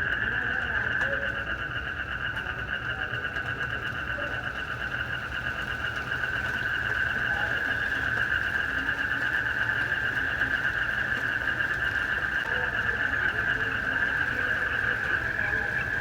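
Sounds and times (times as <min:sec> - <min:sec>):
crickets and frogs trilling: 0:00.0 - 0:16.0.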